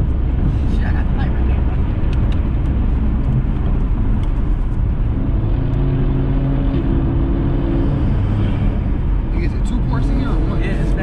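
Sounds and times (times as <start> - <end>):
car engine and road rumble: 0.0 - 11.0
even engine hum: 0.0 - 11.0.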